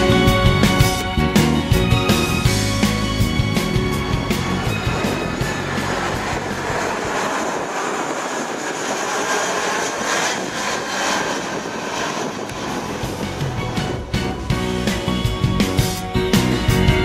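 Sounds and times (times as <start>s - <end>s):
jet airliner roar overhead: 0.0s - 17.0s.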